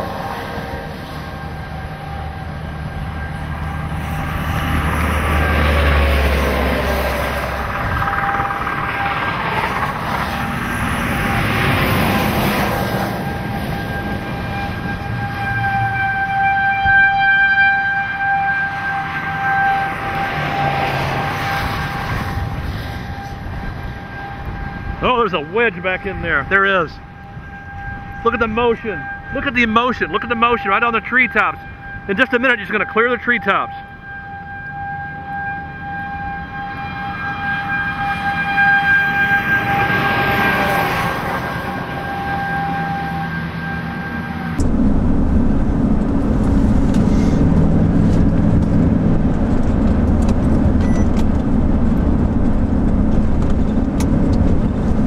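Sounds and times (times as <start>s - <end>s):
rushing noise: 0.0s - 17.1s, 18.0s - 33.7s, 36.5s - 55.0s
warning siren: 0.0s - 55.0s.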